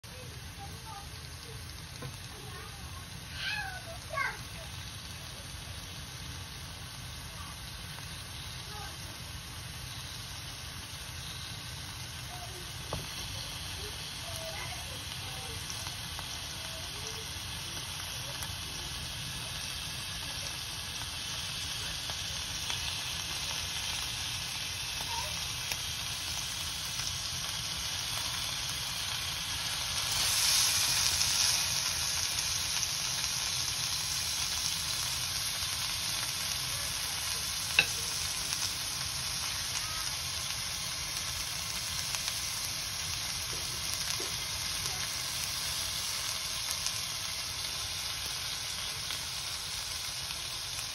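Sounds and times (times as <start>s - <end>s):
food sizzling in frying pan: 0.0s - 50.9s.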